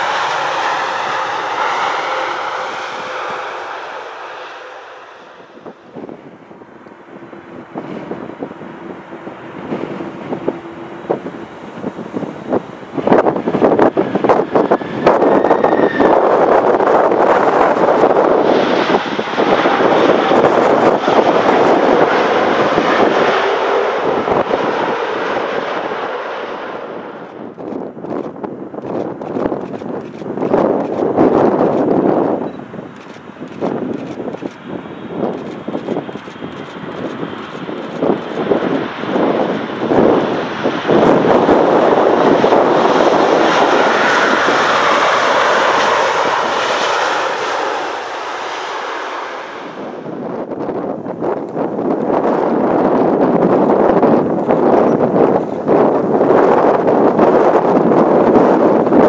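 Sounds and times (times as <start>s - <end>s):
jet engine roar: 0.0s - 59.0s
wind buffeting microphone: 0.0s - 59.0s.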